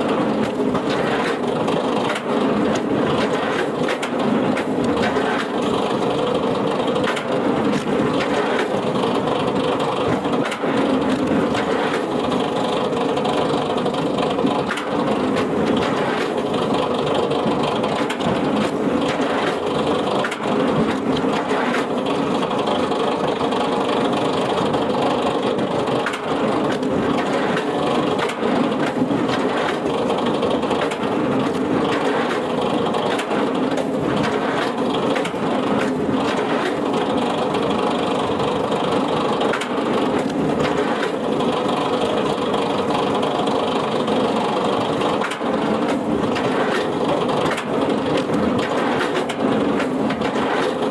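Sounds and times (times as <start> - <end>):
wood-processing machine running: 0.0 - 50.9.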